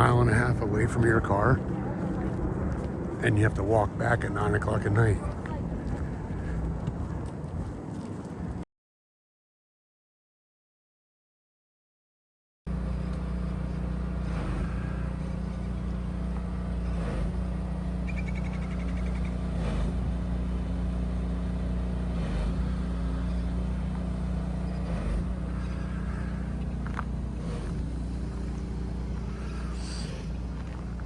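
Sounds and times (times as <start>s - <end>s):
road vehicle engine and road noise: 0.0s - 8.7s, 12.7s - 31.0s.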